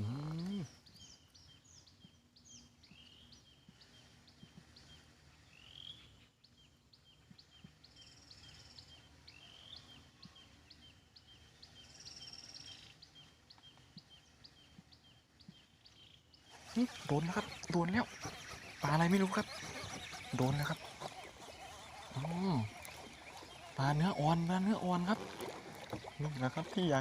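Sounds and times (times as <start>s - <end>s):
birds chirping: 0.0s - 27.0s
sweeping buzzy bird calls: 0.0s - 27.0s.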